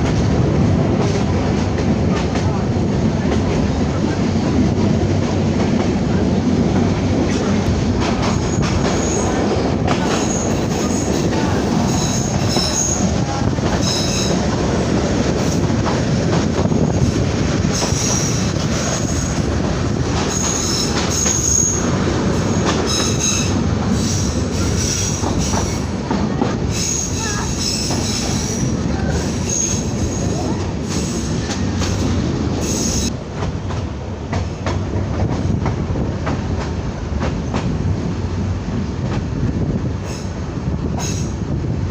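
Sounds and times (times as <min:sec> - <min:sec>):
train wheels rumbling: 0:00.0 - 0:41.9.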